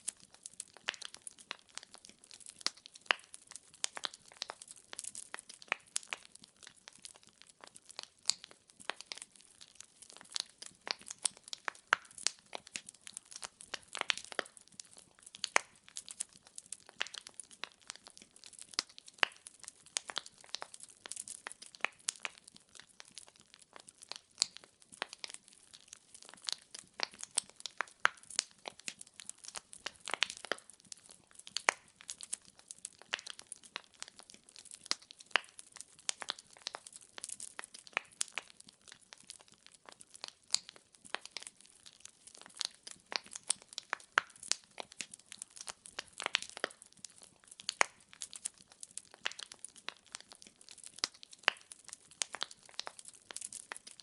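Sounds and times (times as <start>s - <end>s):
firewood crackling: 0.0s - 54.0s.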